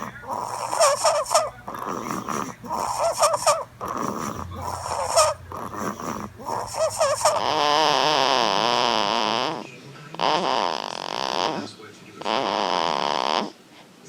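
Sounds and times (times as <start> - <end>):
baby snoring: 0.0 - 13.6.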